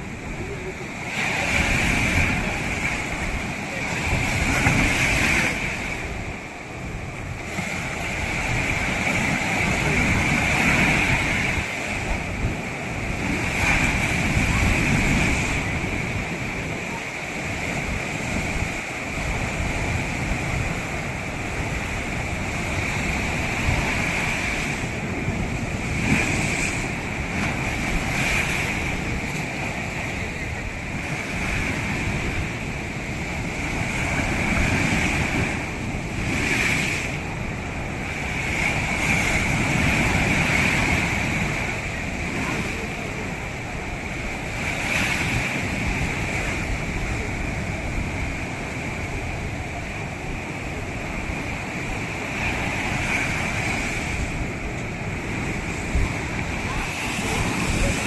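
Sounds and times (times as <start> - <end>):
ocean surf breaking: 0.0 - 58.0
wind buffeting microphone: 0.0 - 58.0.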